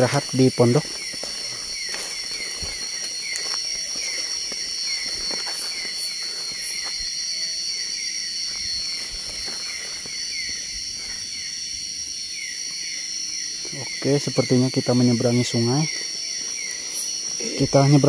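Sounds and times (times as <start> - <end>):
insect chirping: 0.0 - 18.0
insects buzzing drone: 0.0 - 18.0.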